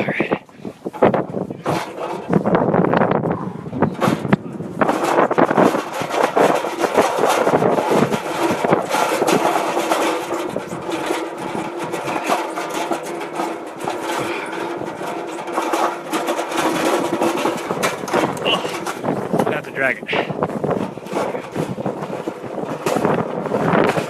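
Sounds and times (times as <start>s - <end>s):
utility cart rattling and knocking: 0.4s - 24.0s.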